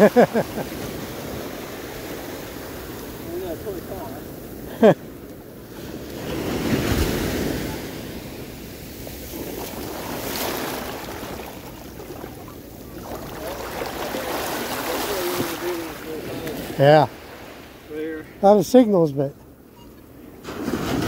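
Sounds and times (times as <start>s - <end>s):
ocean surf washing up beach: 0.0s - 19.3s, 20.4s - 21.0s.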